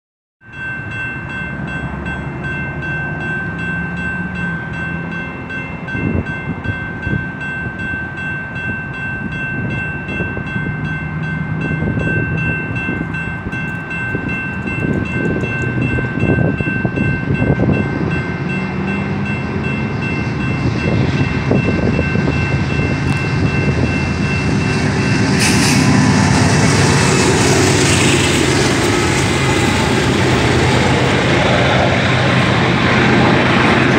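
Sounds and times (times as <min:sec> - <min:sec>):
crossing warning bell ringing: 0:00.4 - 0:33.9
locomotive engine and wheels on rail: 0:00.4 - 0:33.9.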